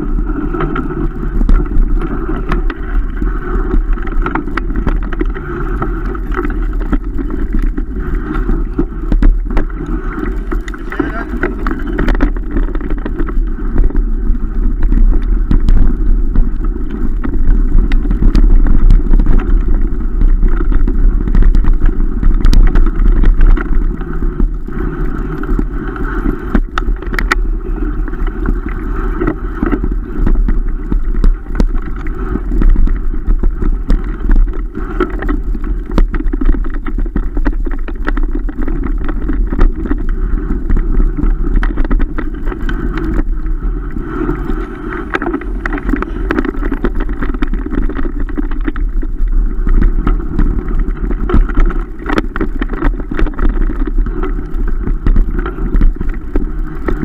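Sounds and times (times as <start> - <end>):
bike rattling and knocking: 0.0 - 57.0
tyres rumbling on dirt track: 0.0 - 57.0
wind buffeting microphone: 0.0 - 57.0.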